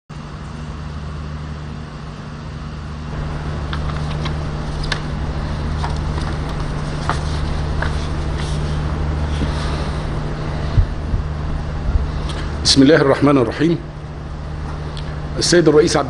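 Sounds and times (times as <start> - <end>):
sound system hum and hiss: 0.1 - 16.0.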